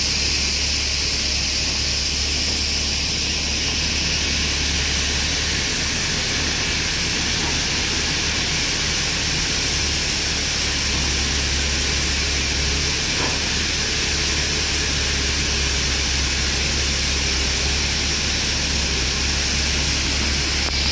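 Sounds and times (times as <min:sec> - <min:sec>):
heavy machinery running: 0:00.0 - 0:20.9.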